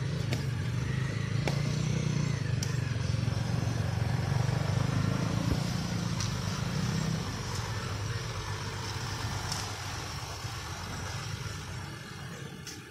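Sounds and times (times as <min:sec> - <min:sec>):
loud low engine hum: 0:00.0 - 0:12.9
traffic noise: 0:00.0 - 0:12.9.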